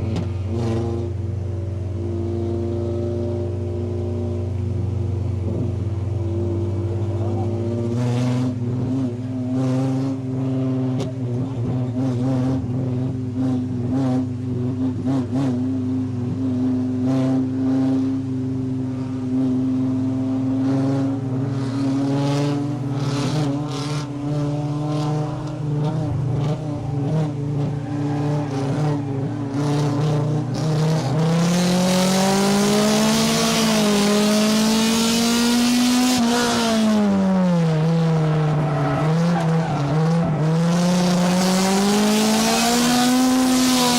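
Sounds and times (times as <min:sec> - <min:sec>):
race car engine: 0:00.0 - 0:43.9.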